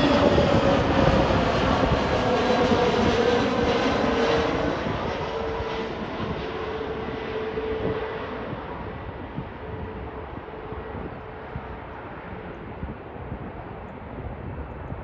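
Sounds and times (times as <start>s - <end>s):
engine whine: 0.0s - 15.0s
jet airliner engine noise: 0.0s - 15.0s.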